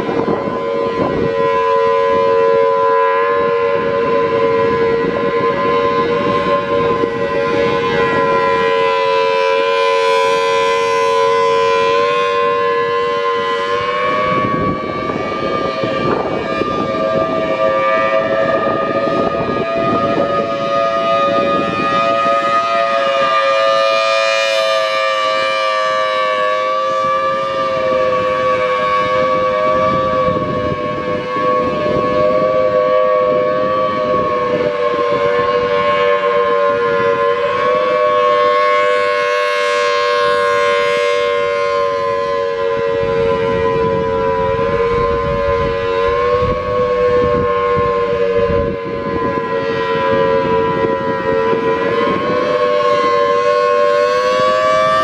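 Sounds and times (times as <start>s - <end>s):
rotating siren chord: 0.0s - 55.0s.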